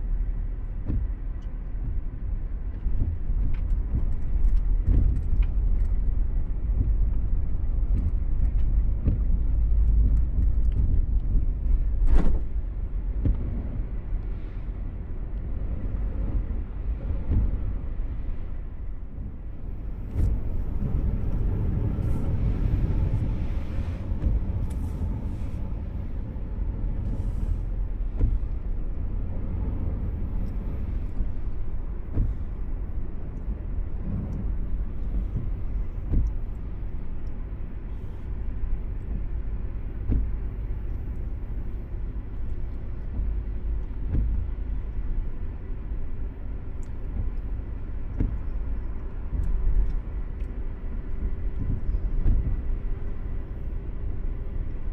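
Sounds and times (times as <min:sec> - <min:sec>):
vehicle rumbling: 0:00.0 - 0:54.9.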